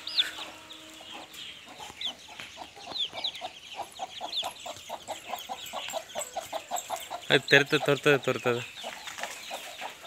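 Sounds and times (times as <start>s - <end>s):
chicken clucking: 0.0s - 10.0s
high chick peeps: 0.0s - 10.0s.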